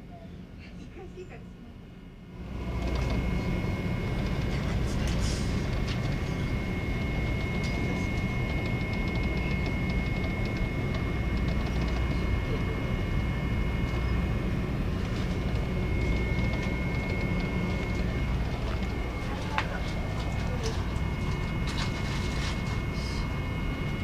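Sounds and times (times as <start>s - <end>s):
ferry engines droning: 0.0s - 24.0s
faint high whine: 1.8s - 24.0s.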